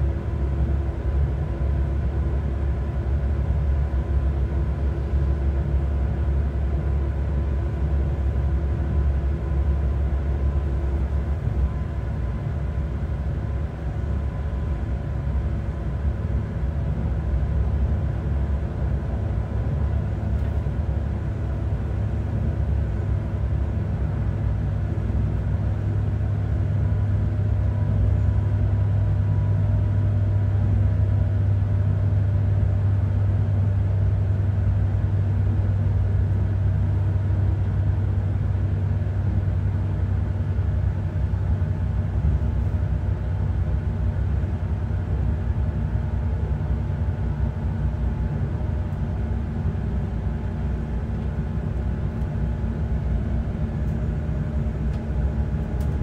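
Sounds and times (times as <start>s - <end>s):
diesel engine drone: 0.0s - 56.0s
rail rumble: 7.3s - 56.0s.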